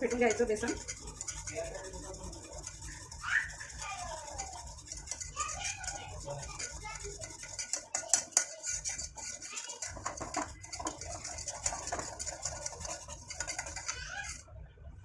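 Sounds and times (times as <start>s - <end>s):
whisk beating batter in metal pot: 0.0s - 14.6s.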